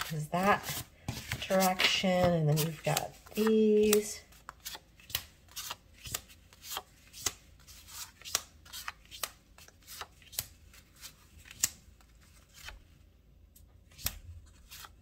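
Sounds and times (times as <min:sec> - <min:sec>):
faint rustling of cards: 0:00.0 - 0:15.0.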